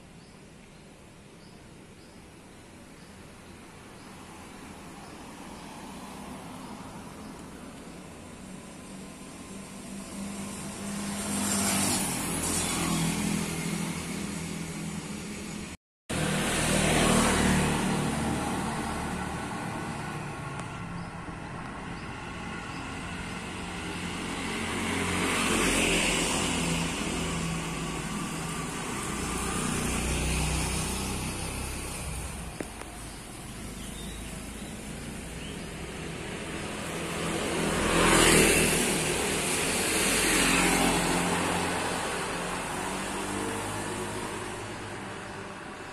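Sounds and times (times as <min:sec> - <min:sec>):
motorcycles passing: 0:03.9 - 0:45.9.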